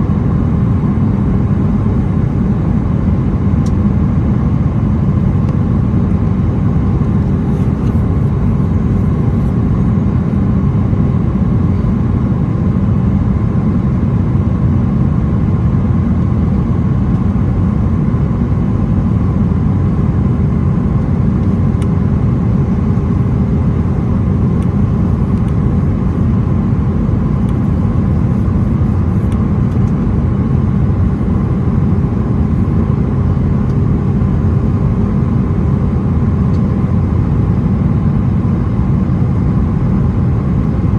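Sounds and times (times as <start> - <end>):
airplane cabin engine roar: 0.0 - 40.9
faint steady hum: 0.0 - 40.9.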